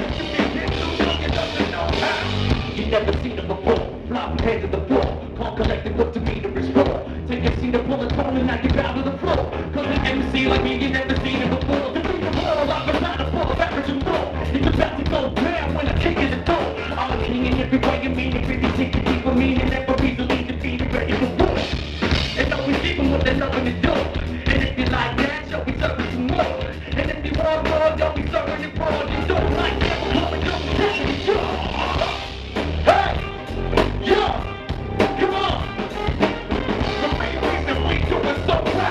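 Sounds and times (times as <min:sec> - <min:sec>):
drum kit beat: 0:00.0 - 0:38.9
live band playing: 0:00.0 - 0:38.9.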